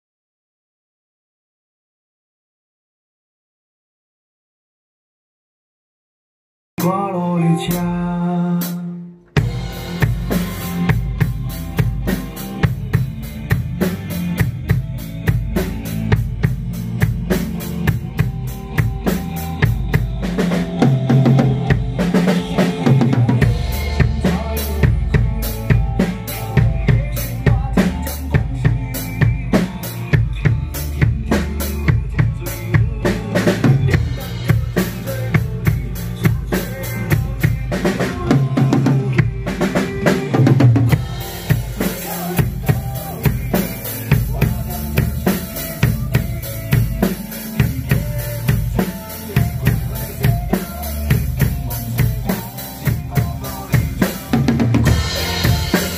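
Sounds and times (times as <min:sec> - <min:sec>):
backing music with bass line: 0:06.8 - 0:55.9
drum kit playing pop-rock groove: 0:06.8 - 0:55.9.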